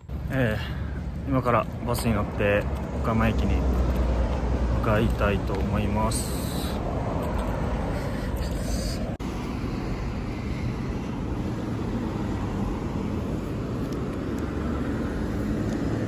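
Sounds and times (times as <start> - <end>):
cars passing on busy street: 0.0 - 16.0.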